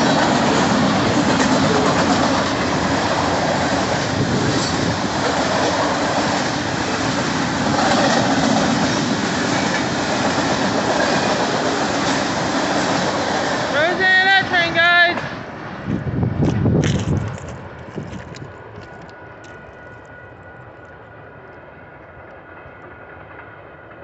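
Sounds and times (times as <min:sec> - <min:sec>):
steel train wheels on rails: 0:00.0 - 0:24.0.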